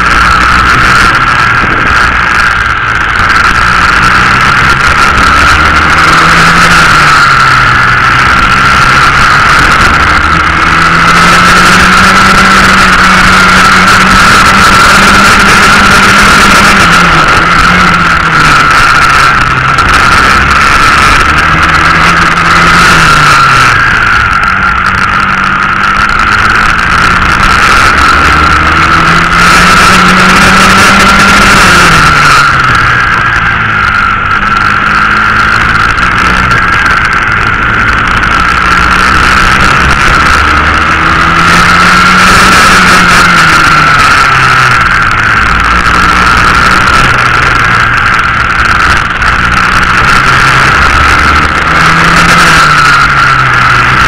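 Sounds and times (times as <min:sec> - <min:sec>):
high whine: 0:00.0 - 0:54.0
kart engine revving: 0:00.0 - 0:54.0.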